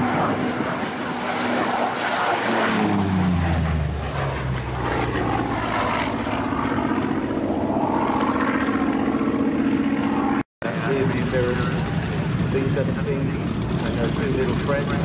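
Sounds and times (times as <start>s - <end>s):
radial aircraft engine passing overhead: 0.0s - 15.0s.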